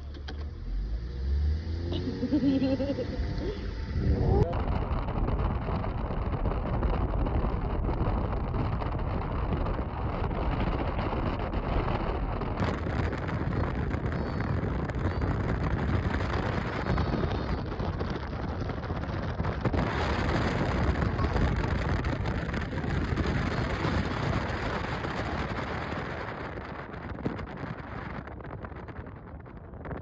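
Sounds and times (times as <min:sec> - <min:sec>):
wind buffeting microphone: 0:01.9 - 0:30.0.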